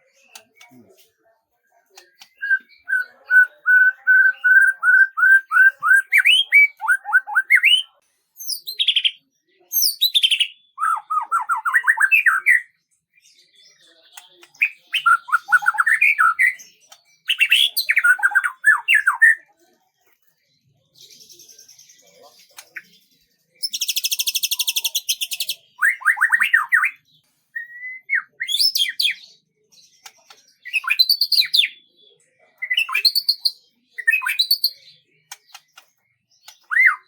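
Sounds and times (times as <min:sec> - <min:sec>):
songbird singing: 0:00.0 - 0:19.5, 0:20.6 - 0:37.0.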